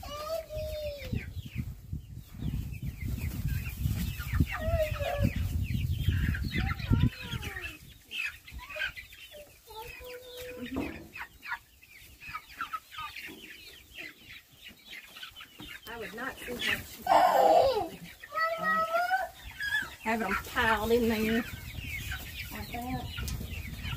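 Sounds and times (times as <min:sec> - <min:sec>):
young chickens cheeping: 0:00.0 - 0:23.9.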